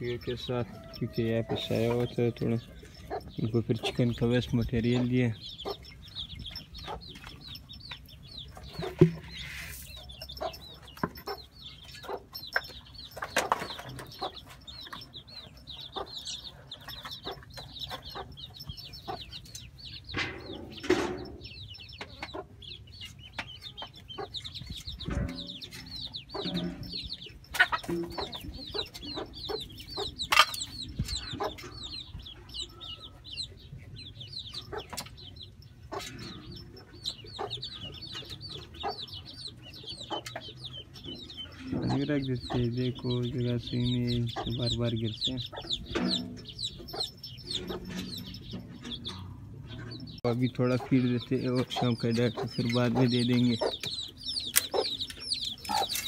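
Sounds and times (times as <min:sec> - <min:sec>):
chickens clucking: 0:00.0 - 0:56.0
small birds chirping: 0:00.0 - 0:56.0.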